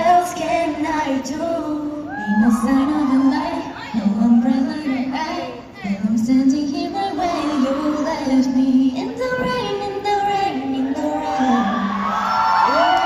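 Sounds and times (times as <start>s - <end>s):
women singing pop melody: 0.0s - 13.0s.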